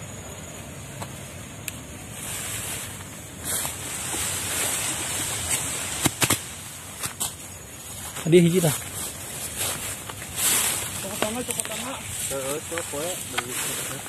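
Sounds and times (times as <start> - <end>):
tall grass rustling: 0.8 - 14.0.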